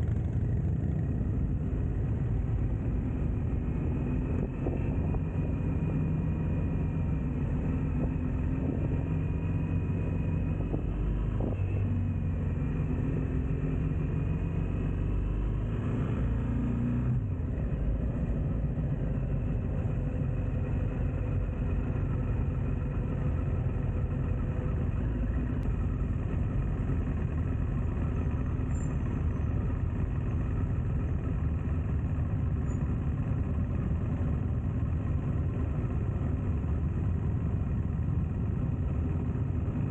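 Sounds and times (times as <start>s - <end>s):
motorcycle engine running: 0.0s - 15.5s, 17.2s - 39.9s
road and wind noise: 0.0s - 39.9s.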